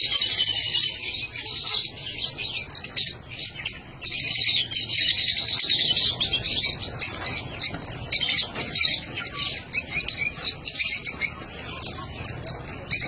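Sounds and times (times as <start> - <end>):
parrots chirping and chattering: 0.0 - 13.0.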